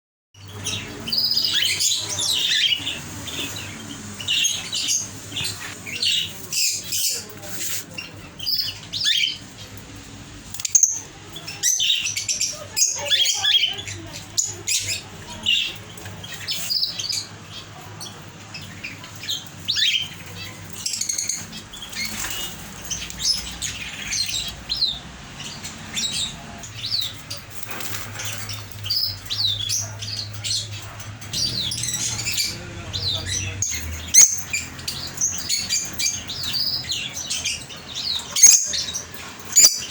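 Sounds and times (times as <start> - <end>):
caged birds chirping: 0.4 - 39.9.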